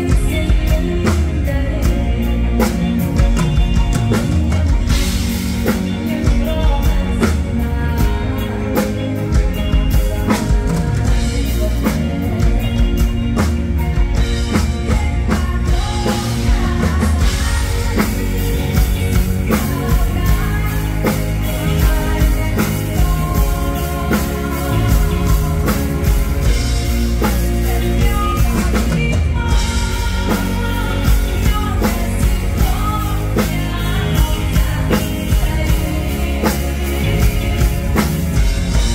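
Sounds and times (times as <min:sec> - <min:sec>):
women singing into microphones: 0:00.0 - 0:03.7, 0:05.8 - 0:13.4, 0:14.0 - 0:38.9
live band with drum kit: 0:00.0 - 0:38.9.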